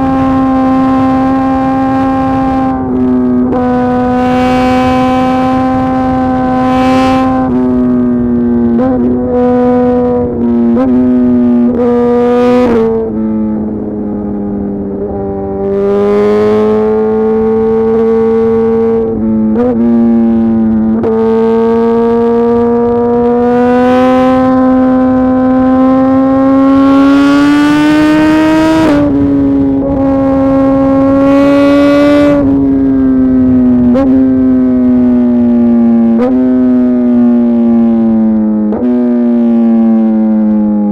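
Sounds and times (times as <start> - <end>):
motorcycle engine on the move: 0.0 - 40.9.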